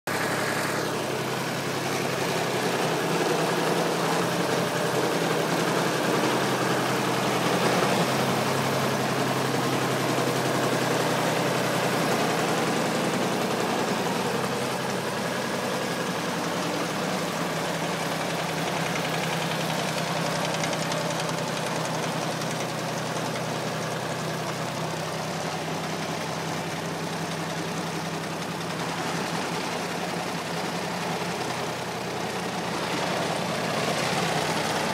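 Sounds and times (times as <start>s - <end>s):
stump grinder engine running: 0.1s - 34.9s.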